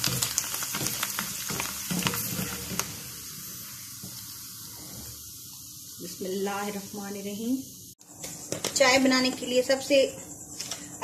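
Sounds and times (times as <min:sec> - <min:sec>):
crackers sizzling in hot oil: 0:00.0 - 0:11.0.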